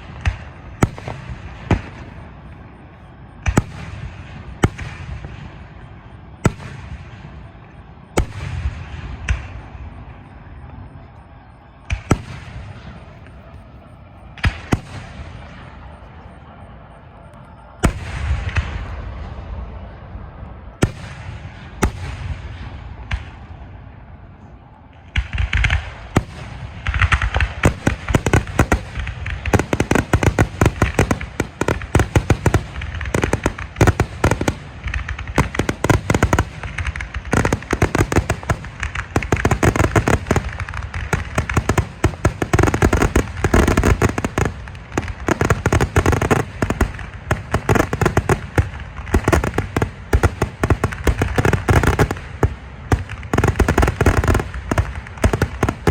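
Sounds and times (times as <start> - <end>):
fireworks bangs and cracks: 0.0 - 55.9.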